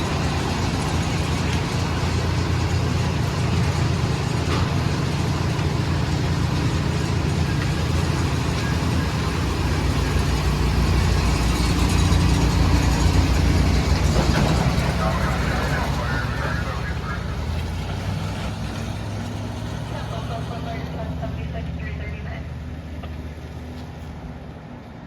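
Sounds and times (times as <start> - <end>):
fire engine running: 0.0 - 25.0.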